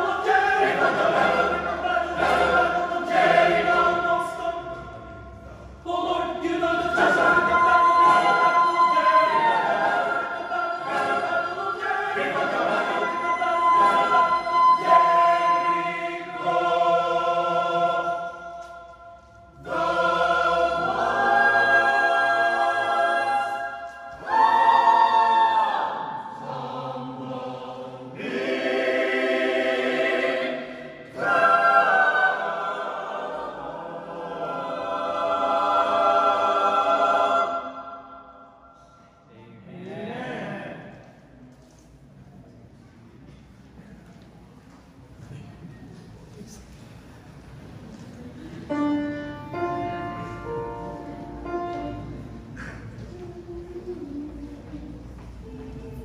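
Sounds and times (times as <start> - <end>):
choir singing a cappella: 0.0 - 41.3, 46.9 - 56.0.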